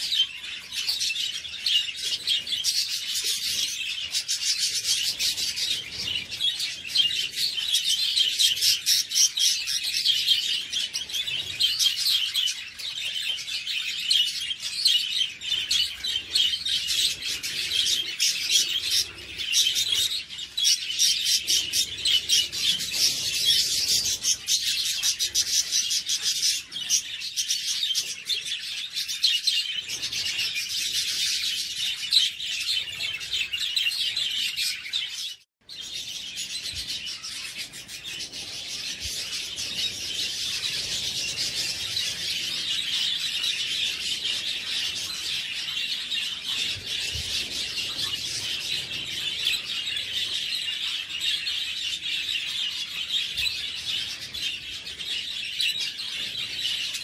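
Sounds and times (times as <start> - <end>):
flock of budgerigars chirping: 0.0 - 57.0.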